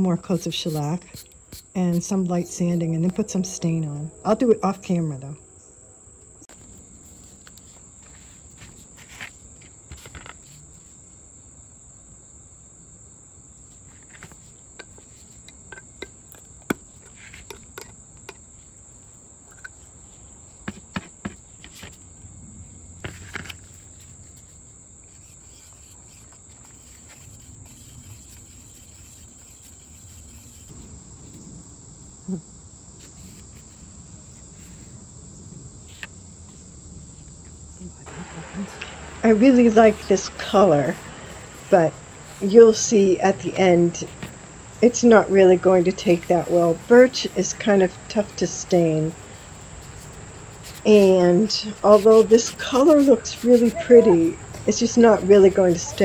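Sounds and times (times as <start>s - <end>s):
high-pitched insect chorus: 0.0s - 20.7s, 21.4s - 56.0s.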